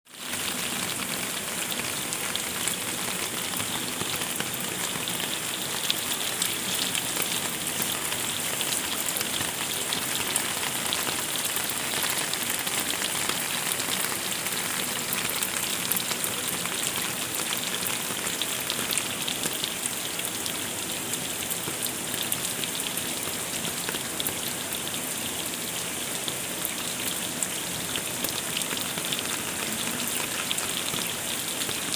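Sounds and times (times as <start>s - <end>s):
heavy rain falling: 0.1s - 31.9s.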